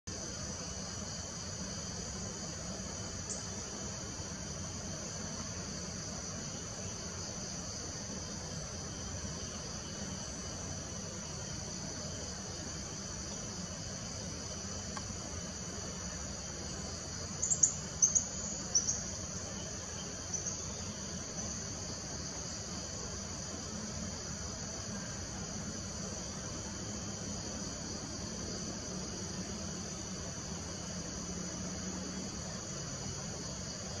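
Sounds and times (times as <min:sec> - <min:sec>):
high-pitched insect chorus: 0:00.1 - 0:34.0.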